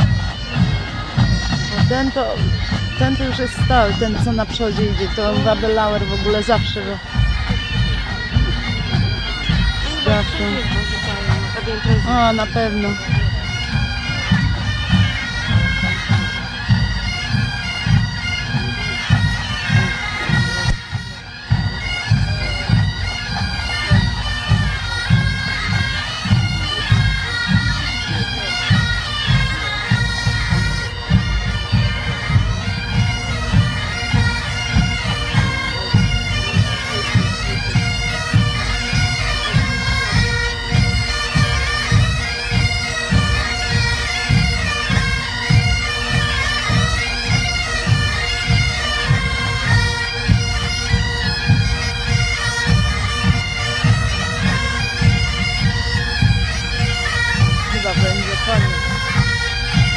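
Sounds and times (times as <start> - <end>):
bagpipes playing a melody: 0.0 - 59.9
marching drum beat: 0.0 - 59.9.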